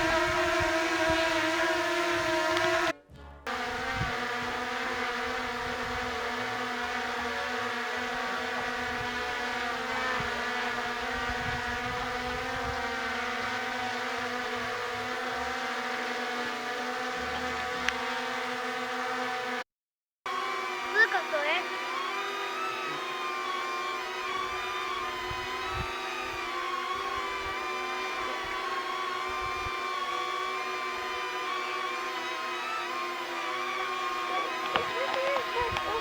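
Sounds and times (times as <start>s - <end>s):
drone propellers buzzing: 0.0s - 19.6s, 20.3s - 36.0s.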